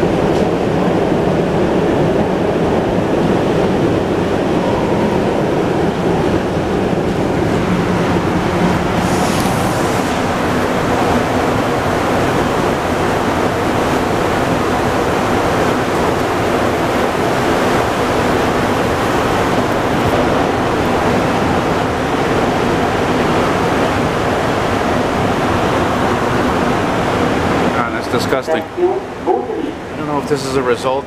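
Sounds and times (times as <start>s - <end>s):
subway train running: 0.0s - 31.0s.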